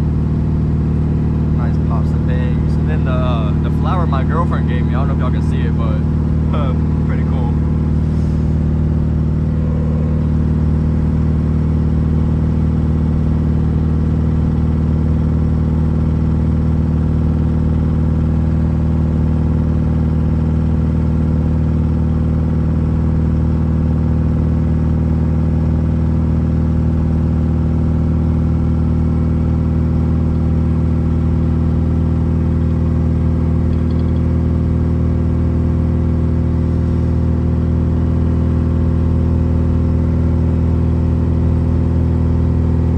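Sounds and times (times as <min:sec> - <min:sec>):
car engine running steadily: 0:00.0 - 0:42.9.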